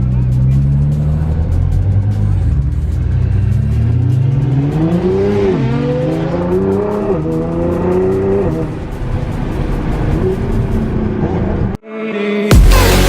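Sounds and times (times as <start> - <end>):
car engine accelerating: 0.0 - 11.8.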